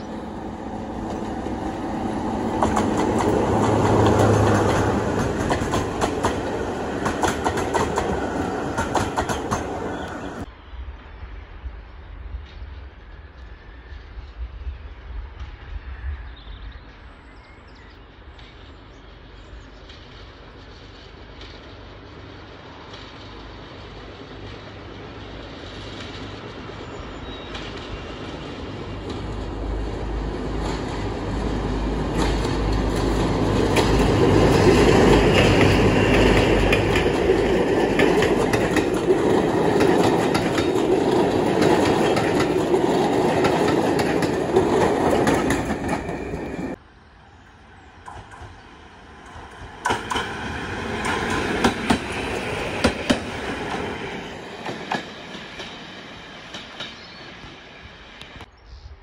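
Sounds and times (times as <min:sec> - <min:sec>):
train wheels clicking on rails: 0:00.0 - 0:10.5, 0:18.2 - 0:46.8, 0:48.0 - 0:58.5
diesel locomotive engine rumble: 0:00.0 - 0:58.6.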